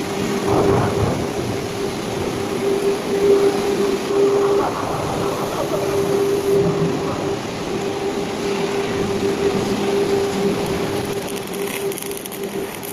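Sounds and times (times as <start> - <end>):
arc welding crackling hiss: 0.0 - 12.9
constant hum: 0.0 - 12.9.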